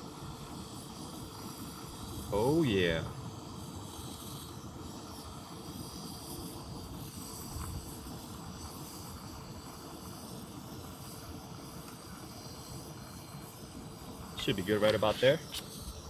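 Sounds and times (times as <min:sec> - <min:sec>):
camp stove hissing: 0:00.0 - 0:16.0.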